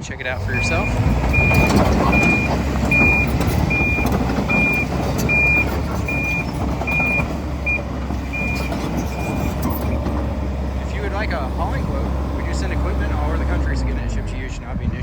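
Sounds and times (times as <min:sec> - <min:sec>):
excavator diesel engine running: 0:00.0 - 0:15.0
warning alarm beeping: 0:00.4 - 0:14.2.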